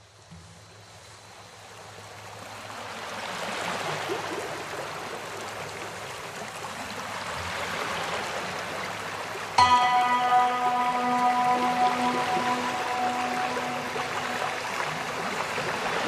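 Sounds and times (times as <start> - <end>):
flowing water: 1.2 - 16.0.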